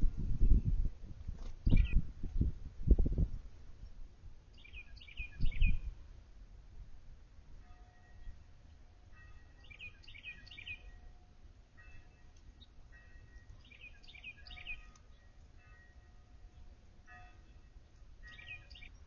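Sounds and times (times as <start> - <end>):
songbirds chirping: 1.5 - 2.0, 3.7 - 19.0.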